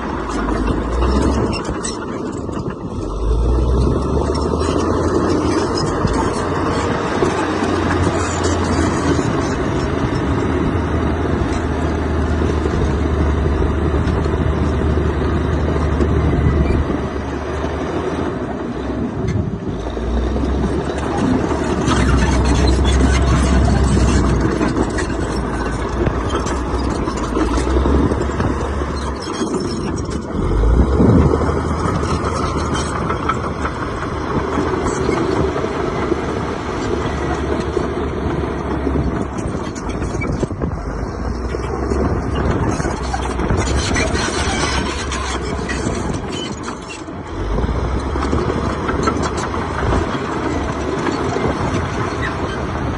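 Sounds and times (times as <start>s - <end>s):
heavy diesel engine drone: 0.0s - 52.9s.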